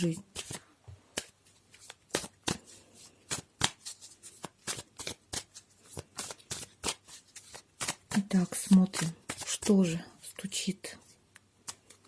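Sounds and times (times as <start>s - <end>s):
cards being shuffled: 0.0s - 10.0s, 11.0s - 12.0s.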